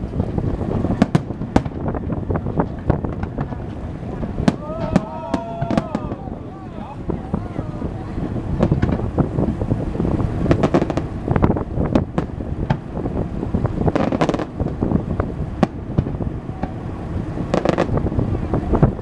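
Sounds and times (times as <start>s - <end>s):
fireworks cracking and booming: 0.0s - 19.0s
low rumble: 0.0s - 19.0s
wind buffeting microphone: 0.0s - 19.0s.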